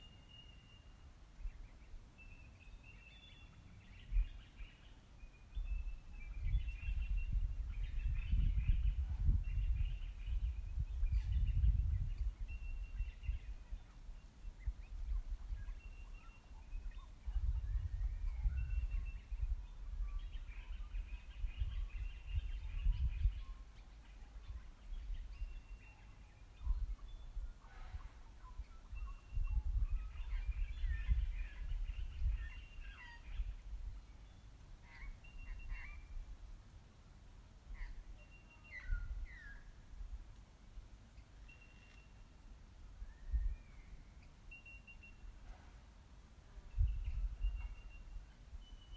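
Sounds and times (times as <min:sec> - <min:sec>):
wind rumbling on microphone: 0:03.9 - 0:25.9, 0:26.6 - 0:36.6, 0:37.7 - 0:40.9, 0:42.8 - 0:44.2, 0:46.4 - 0:48.9.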